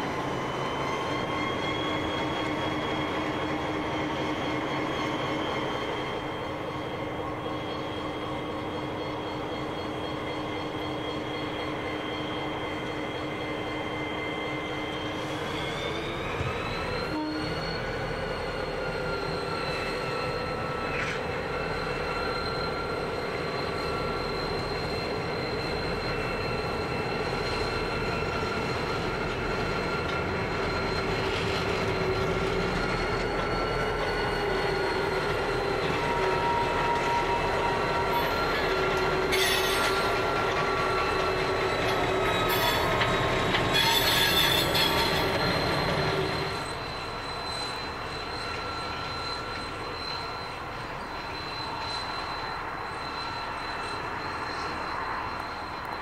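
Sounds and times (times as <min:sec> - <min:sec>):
diesel locomotives rolling past: 0:00.0 - 0:56.0.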